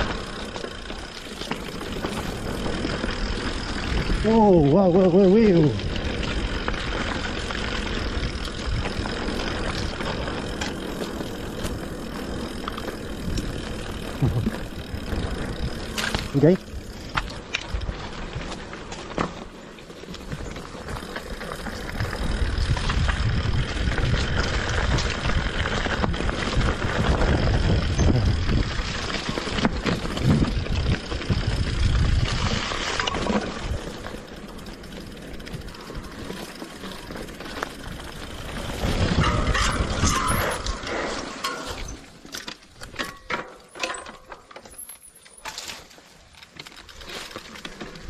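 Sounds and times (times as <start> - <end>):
bike rattling over bumps: 0.0 - 48.0
bike tyres crunching on dirt: 0.0 - 48.0.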